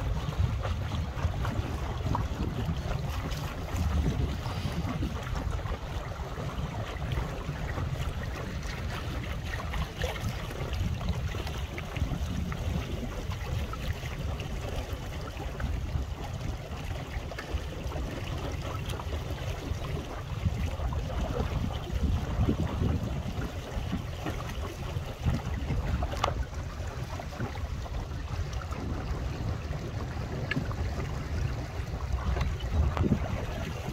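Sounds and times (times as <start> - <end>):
small waves lapping: 0.0 - 33.9
wind buffeting microphone: 0.0 - 33.9.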